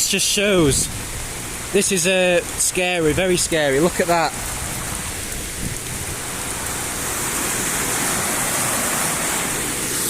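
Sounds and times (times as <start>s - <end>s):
fast water rushing: 0.0s - 10.0s
rain falling: 0.0s - 10.0s.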